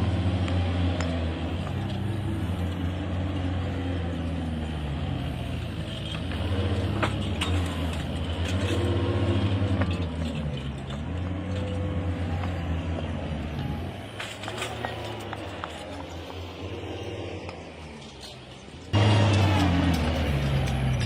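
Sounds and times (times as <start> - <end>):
construction machine engine running: 0.0 - 21.0.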